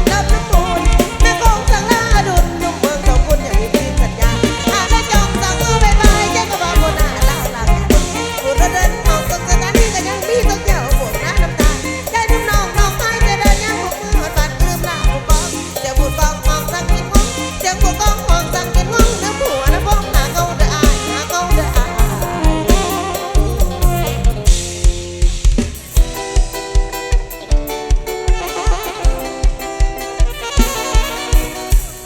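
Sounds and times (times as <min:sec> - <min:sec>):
pounding bass and drum beat: 0:00.0 - 0:32.0
upbeat dance band music: 0:00.0 - 0:32.0.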